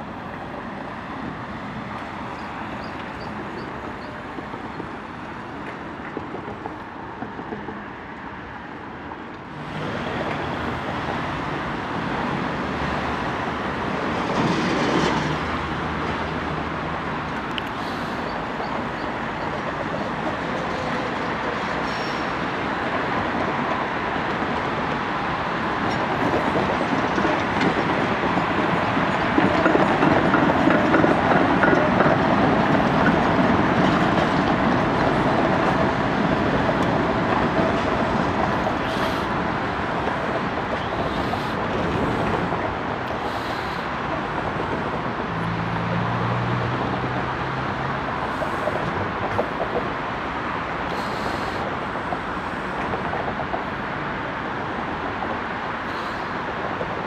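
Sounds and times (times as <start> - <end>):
tram rolling on rails: 0.0 - 57.0.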